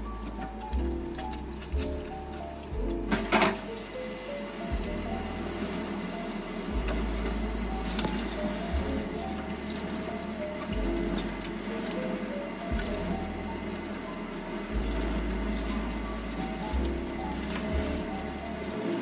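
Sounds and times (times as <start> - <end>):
background music: 0.0 - 19.0
shower sprayer water running: 0.0 - 19.0.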